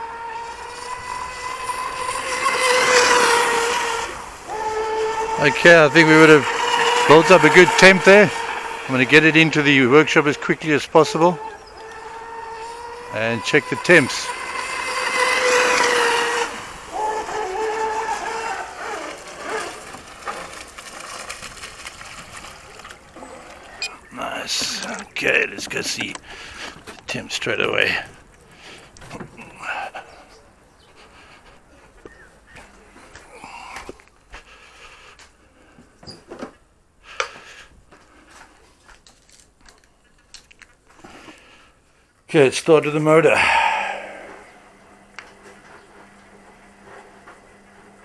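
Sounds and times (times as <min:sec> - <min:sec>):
electric boat motor whining: 0:00.0 - 0:35.8, 0:42.4 - 0:48.0.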